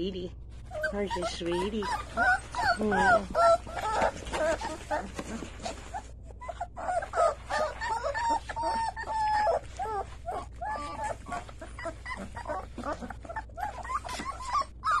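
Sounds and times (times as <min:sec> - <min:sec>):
puppies whining and squeaking: 0:00.5 - 0:15.0.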